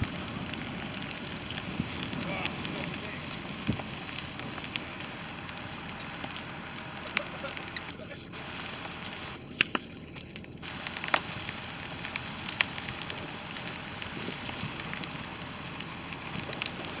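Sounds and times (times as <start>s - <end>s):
fire hissing and crackling: 0.0s - 17.0s.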